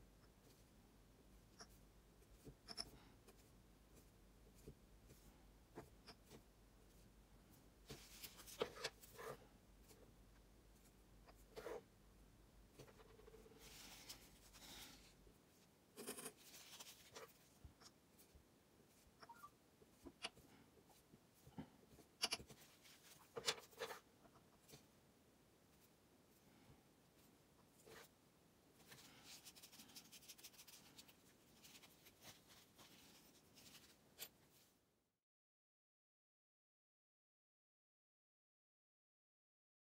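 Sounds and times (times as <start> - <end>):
scratching and rubbing handling noise: 0.3 - 12.0, 12.6 - 25.0, 25.6 - 34.8.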